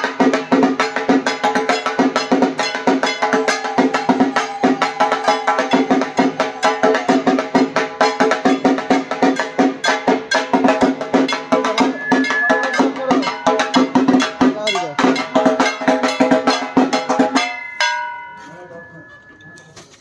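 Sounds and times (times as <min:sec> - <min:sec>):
rapid drum strokes: 0:00.0 - 0:18.1
ringing metal strikes: 0:00.0 - 0:19.9.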